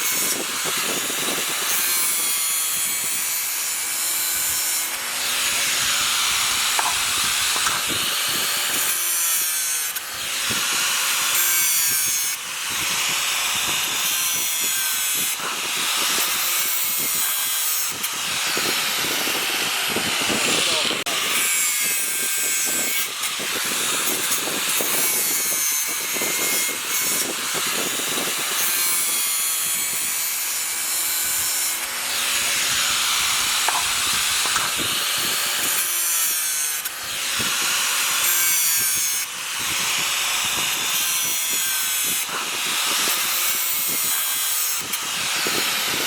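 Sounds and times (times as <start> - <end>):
angle grinder grinding metal: 0.0 - 46.0.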